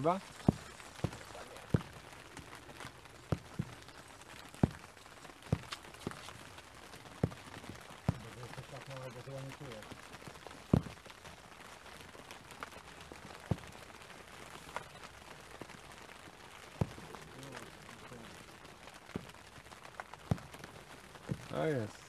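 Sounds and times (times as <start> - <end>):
heavy raindrop taps: 0.0 - 22.0
light rain pattering: 0.0 - 22.0.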